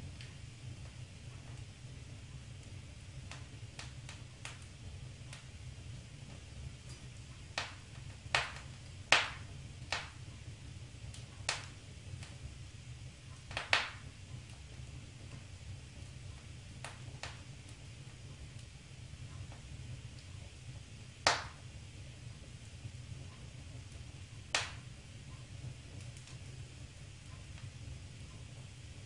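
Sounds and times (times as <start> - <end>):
steady low rumble: 0.0 - 29.0
wood fire crackling and popping: 0.0 - 29.0.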